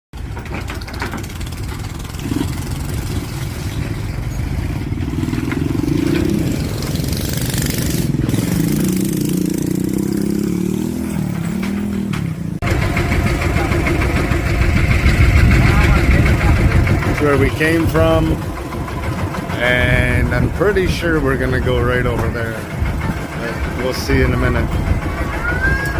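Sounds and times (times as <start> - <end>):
another engine running: 0.2 - 25.9
engine rumbling: 0.2 - 25.9.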